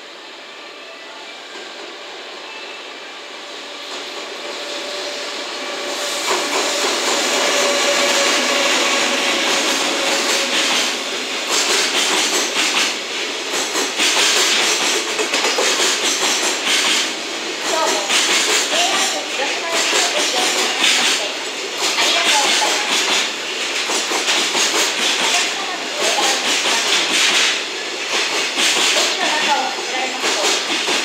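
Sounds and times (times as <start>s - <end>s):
electric locomotive passing: 0.0s - 31.0s.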